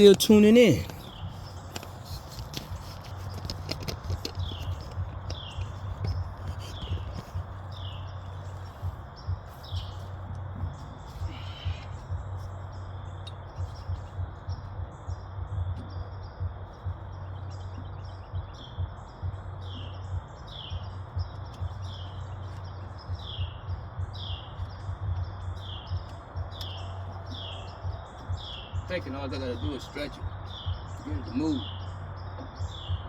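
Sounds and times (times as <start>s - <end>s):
bird chirping: 0.0s - 33.0s
low hum: 0.0s - 33.0s.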